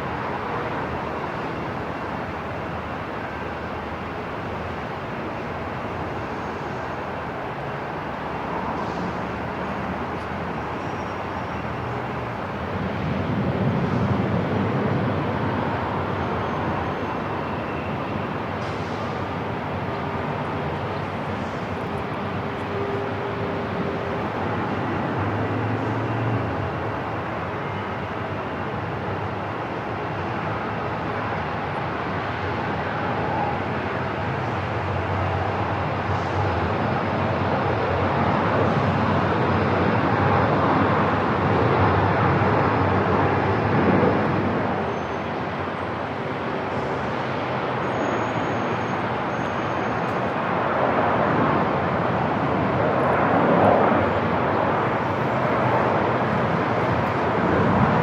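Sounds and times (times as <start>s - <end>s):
aircraft engine rush: 0.0s - 58.0s.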